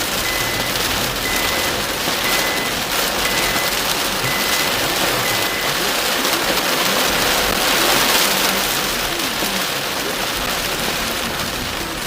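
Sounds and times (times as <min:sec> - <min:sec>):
heavy rain on a car roof: 0:00.0 - 0:12.0.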